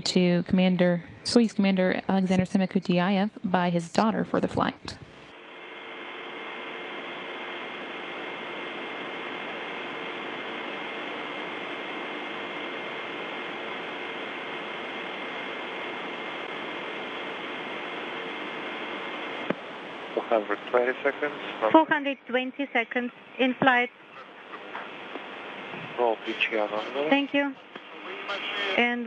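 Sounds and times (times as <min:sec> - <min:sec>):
low hum: 0:00.0 - 0:28.0
radio link hiss: 0:00.0 - 0:29.0.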